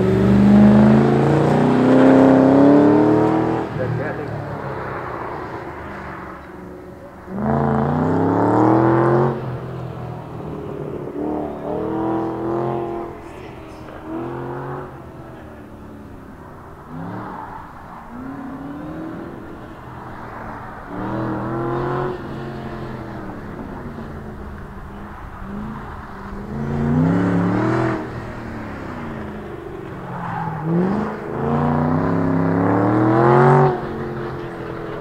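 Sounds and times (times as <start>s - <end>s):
car engine revving at full throttle: 0.0s - 35.0s.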